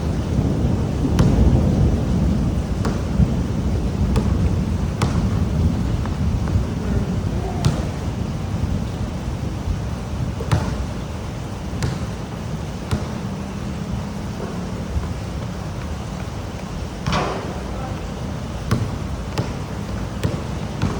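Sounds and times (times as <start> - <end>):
pouring rain: 0.0 - 20.9
raindrops tapping the microphone: 0.0 - 20.9.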